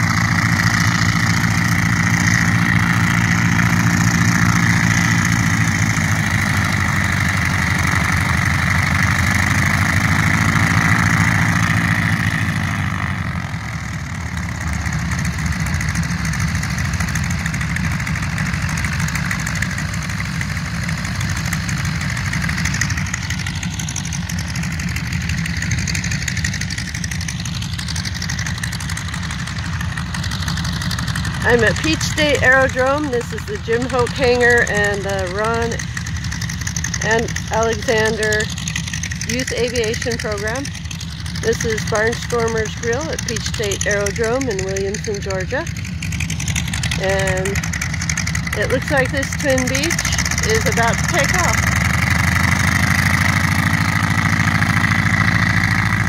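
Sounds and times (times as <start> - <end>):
aircraft piston engine idling: 0.0 - 56.0.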